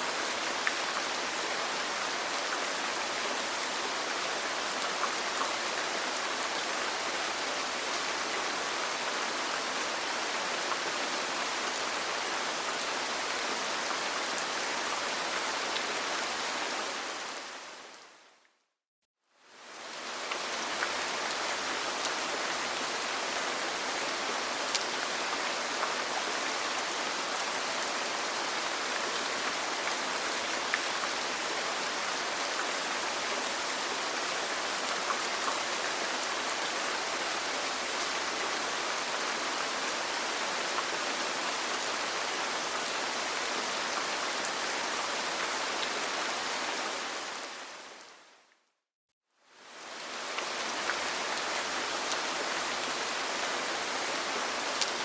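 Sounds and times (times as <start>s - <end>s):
steady rain: 0.0s - 18.5s, 19.3s - 48.6s, 49.4s - 55.0s.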